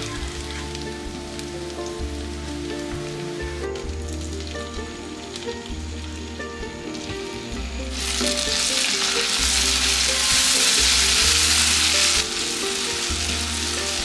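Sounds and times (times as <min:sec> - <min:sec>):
background music with bass line: 0:00.0 - 0:14.0
tomatoes sizzling in oil: 0:00.0 - 0:14.0.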